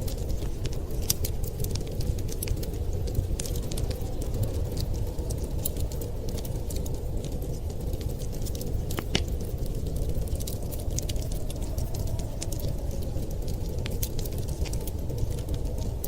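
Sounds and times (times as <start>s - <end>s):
fire rumbling hiss: 0.0s - 16.0s
wood fire crackling and popping: 0.0s - 16.0s.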